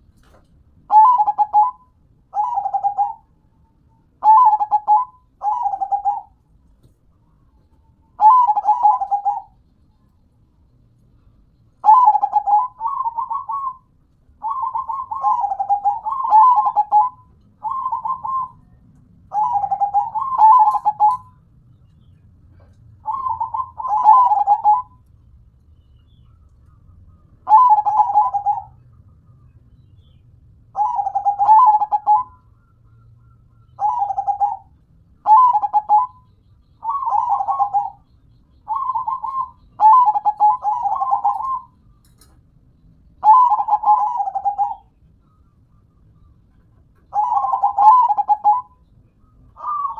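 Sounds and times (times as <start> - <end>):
dove cooing: 0.9 - 3.4, 4.2 - 6.5, 7.4 - 9.6, 11.2 - 21.5, 22.5 - 25.1, 26.2 - 29.2, 30.7 - 42.0, 43.2 - 49.9.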